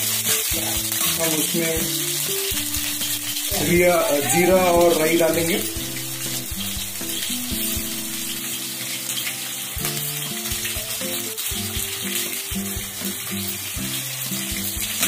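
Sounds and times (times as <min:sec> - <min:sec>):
hot oil sizzling in a frying pan: 0:00.0 - 0:15.0
soft background music: 0:00.0 - 0:15.0.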